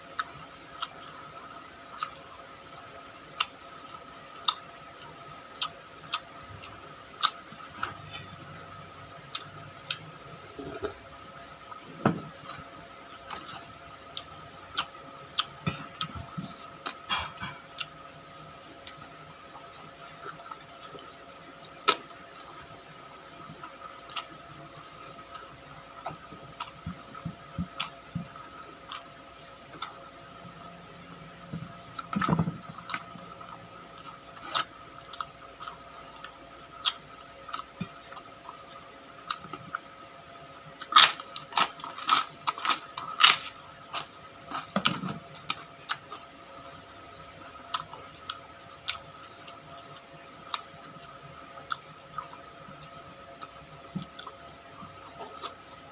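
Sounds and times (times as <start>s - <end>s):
chewing crispy fried food: 0.0s - 55.9s.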